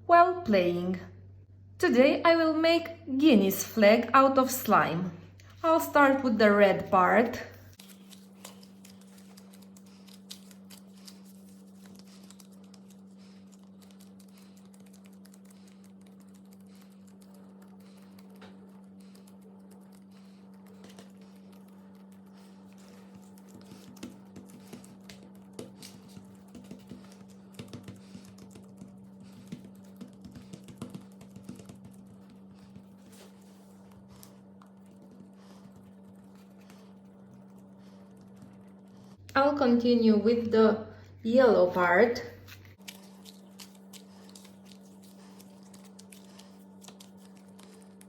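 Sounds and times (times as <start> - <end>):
low electrical hum: 0.0 - 48.0.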